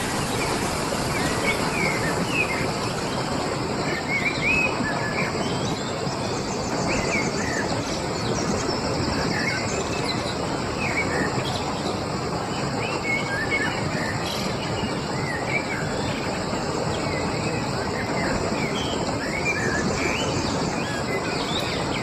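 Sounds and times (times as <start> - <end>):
birds chirping: 0.0 - 22.0
steady rushing noise: 0.0 - 22.0.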